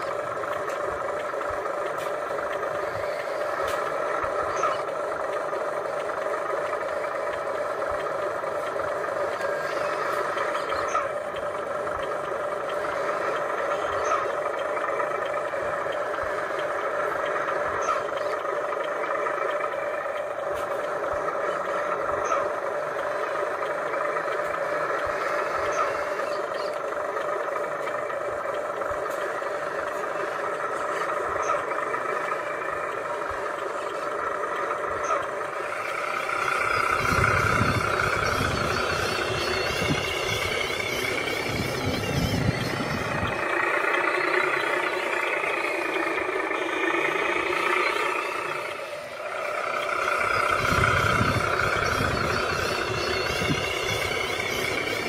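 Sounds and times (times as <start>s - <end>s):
toy truck motor whine: 0.0s - 55.0s.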